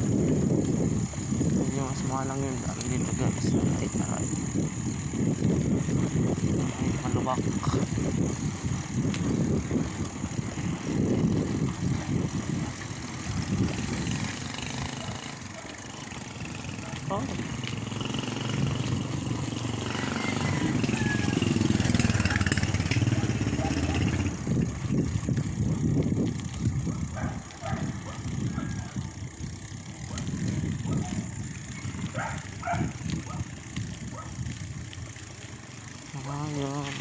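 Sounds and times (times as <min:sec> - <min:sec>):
wind buffeting microphone: 0:00.0 - 0:35.6
bicycle tyre rumble on concrete: 0:00.0 - 0:37.0.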